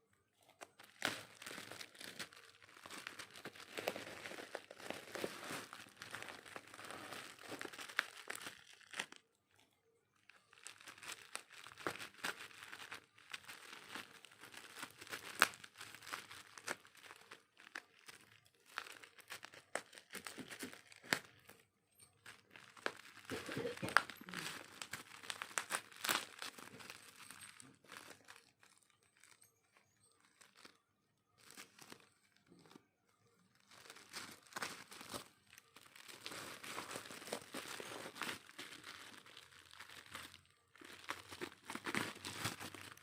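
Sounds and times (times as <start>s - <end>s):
packaging crinkling and rustling: 0.3s - 43.0s.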